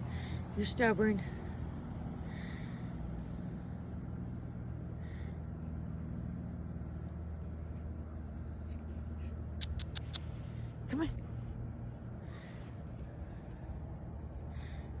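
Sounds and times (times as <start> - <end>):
low mechanical hum and rumble: 0.0 - 15.0.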